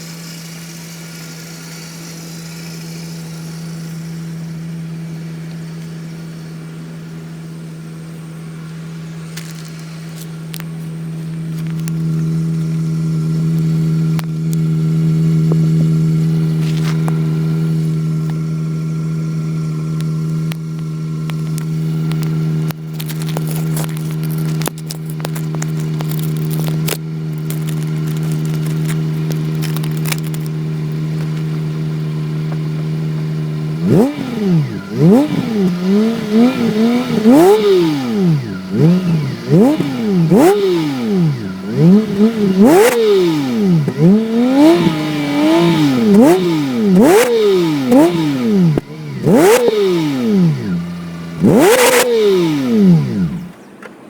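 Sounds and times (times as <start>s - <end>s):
car engine revving: 0.0s - 53.7s.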